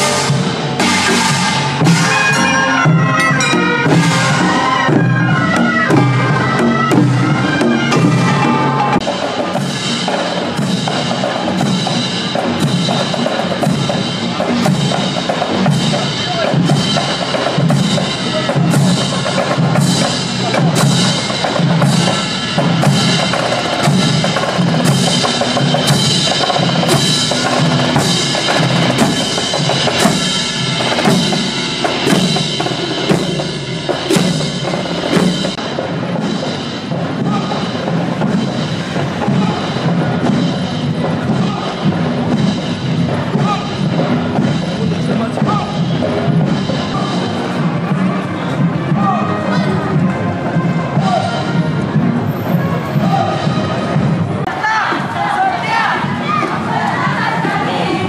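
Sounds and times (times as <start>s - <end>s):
music with steady drum beat: 0.0s - 55.0s.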